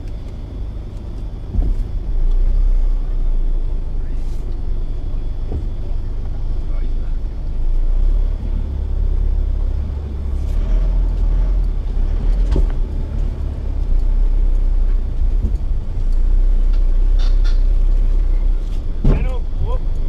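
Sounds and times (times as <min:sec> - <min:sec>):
vehicle rumbling over rough ground: 0:00.0 - 0:20.0.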